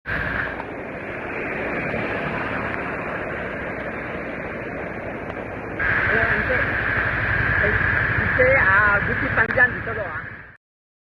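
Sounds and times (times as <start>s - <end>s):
road noise: 0.0s - 10.6s.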